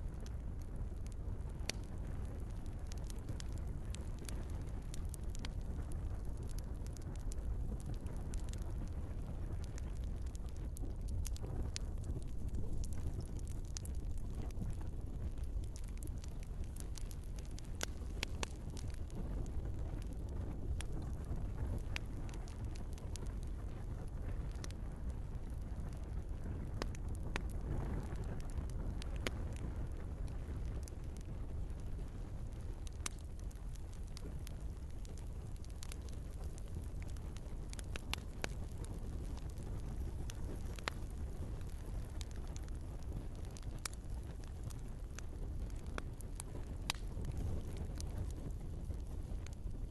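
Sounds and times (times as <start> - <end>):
logs crackling and popping: 0.0 - 49.9
low rumble of flames: 0.0 - 49.9.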